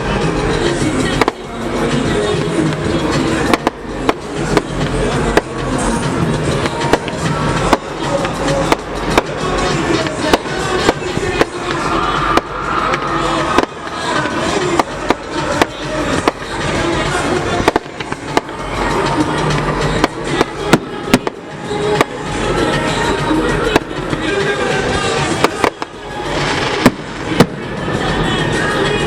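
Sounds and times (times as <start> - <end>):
fireworks bangs and pops: 0.0 - 29.0
music: 0.0 - 29.0
people's voices: 0.0 - 29.0.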